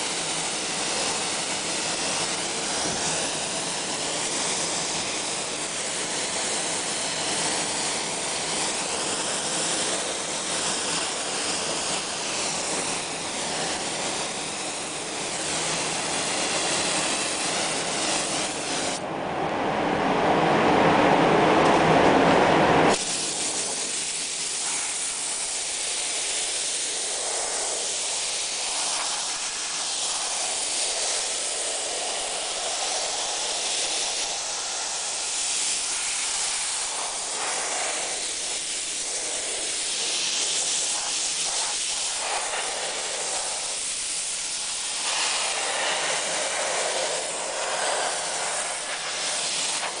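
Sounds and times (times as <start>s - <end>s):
spray gun hissing: 0.0s - 19.0s, 22.9s - 50.0s.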